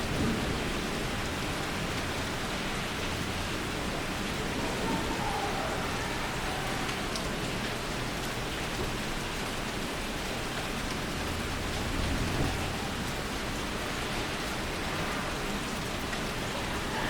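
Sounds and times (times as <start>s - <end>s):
steady rain pouring: 0.0s - 17.0s.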